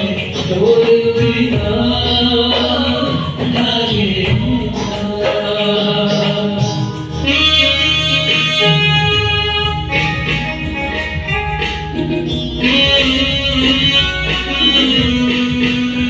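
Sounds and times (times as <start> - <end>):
hand drum: 0.0 - 16.0
keyboards: 0.0 - 16.0
people singing into microphones: 0.0 - 16.0.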